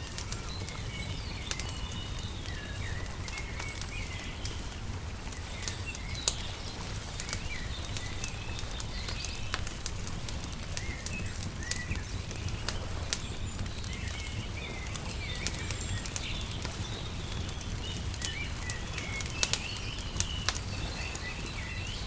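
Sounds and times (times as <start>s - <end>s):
fire pops: 0.0s - 22.0s
small birds chirping: 0.0s - 22.0s
wood fire crackling: 0.0s - 22.0s.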